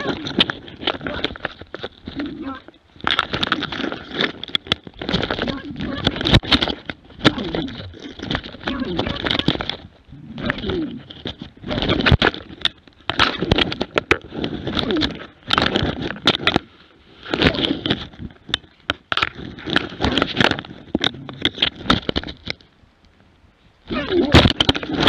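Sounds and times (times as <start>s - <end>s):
scraping and rustling: 0.0s - 22.7s, 23.9s - 25.0s.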